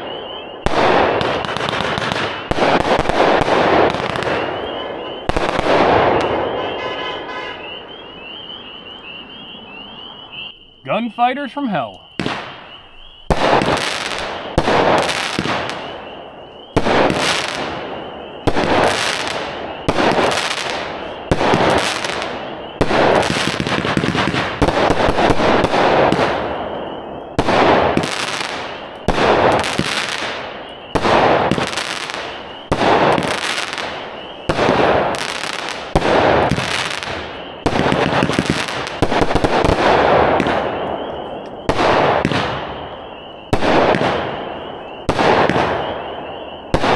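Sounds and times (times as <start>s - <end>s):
firework hiss and crackle: 0.0s - 6.7s, 10.9s - 46.9s
firework shots banging: 0.0s - 7.8s, 11.8s - 46.9s.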